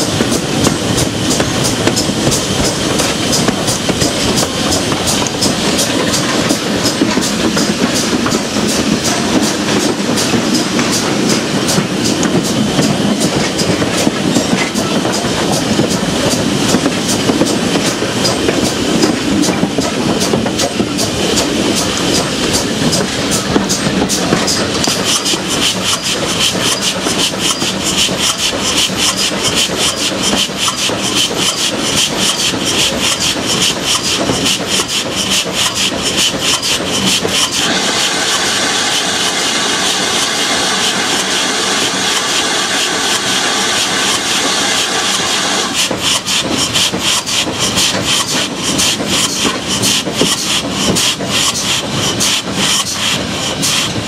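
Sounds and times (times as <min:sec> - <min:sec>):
steam hissing: 0:00.0 - 0:54.0
steam locomotive chuffing: 0:00.0 - 0:54.0
wheels running on rails: 0:00.0 - 0:54.0.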